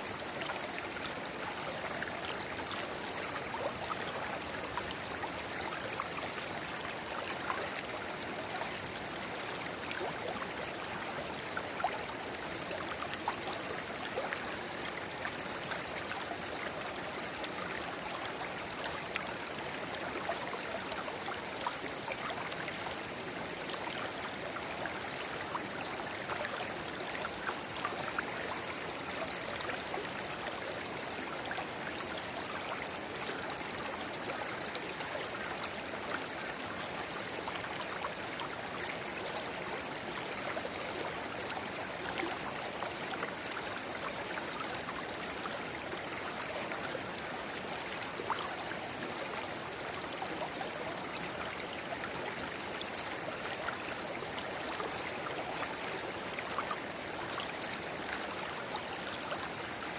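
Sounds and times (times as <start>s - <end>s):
river babbling: 0.0s - 59.9s.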